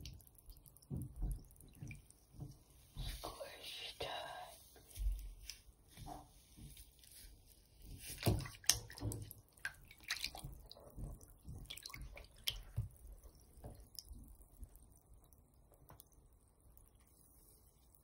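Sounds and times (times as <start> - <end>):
water dripping: 0.0 - 18.0
water sloshing and splashing in sink: 0.0 - 18.0.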